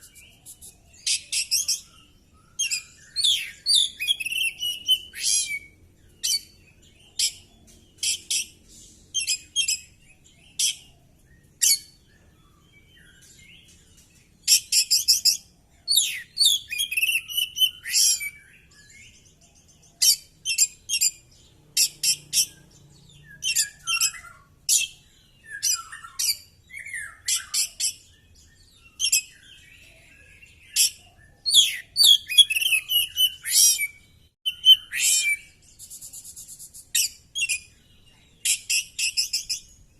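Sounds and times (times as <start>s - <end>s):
bird song with whistled phrases: 0.0s - 39.9s.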